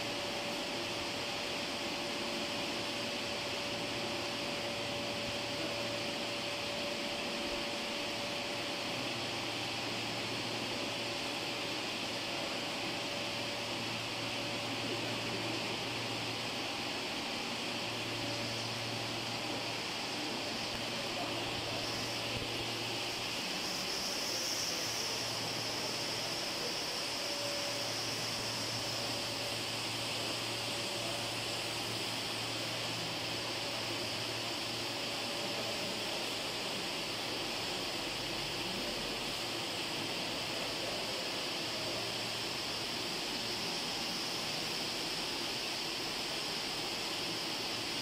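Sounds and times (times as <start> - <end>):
steady whine: 0.0 - 48.0.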